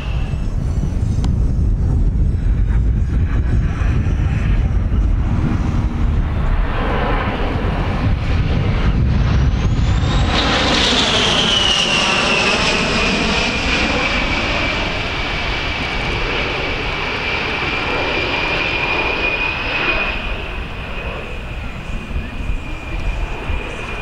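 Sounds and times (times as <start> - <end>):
broad jet rumble: 0.0 - 24.0
jet engines whining overhead: 0.0 - 24.0.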